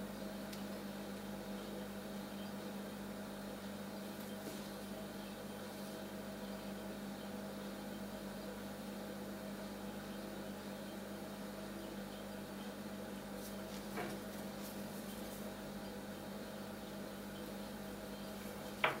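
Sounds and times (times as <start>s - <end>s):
electrical hum with hiss: 0.0s - 19.0s.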